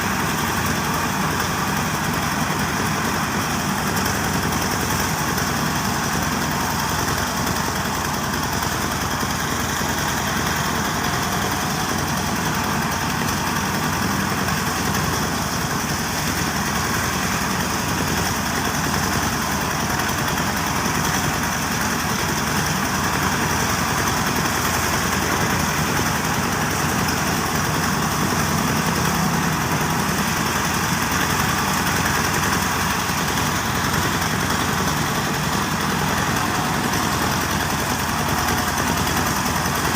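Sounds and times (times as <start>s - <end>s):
diesel engine drone: 0.0s - 39.9s
threshing drum whirring: 0.0s - 39.9s.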